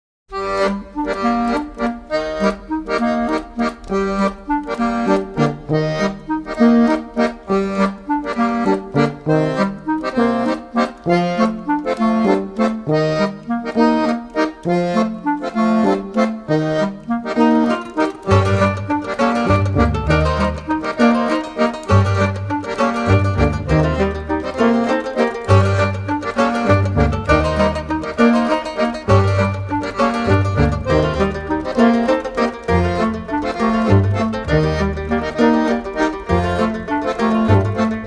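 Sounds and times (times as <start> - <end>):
accordion music over a beat: 0.3 - 38.0.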